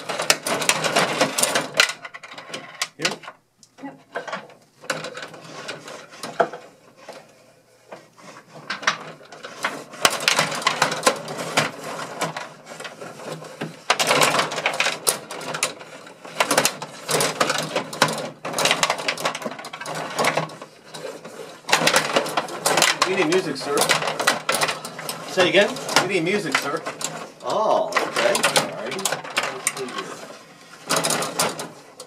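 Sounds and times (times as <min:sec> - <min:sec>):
plastic players clacking: 0:00.0 - 0:03.4, 0:04.0 - 0:07.3, 0:07.9 - 0:32.0
metal rods sliding and spinning: 0:04.2 - 0:32.0.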